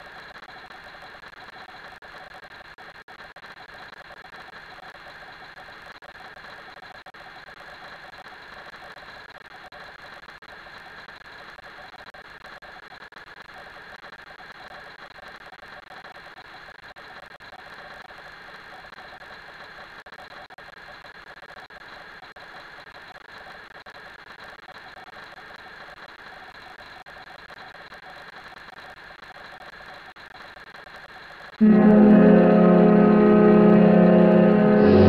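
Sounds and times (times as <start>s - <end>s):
mechanical whirring hum: 0.0s - 35.0s.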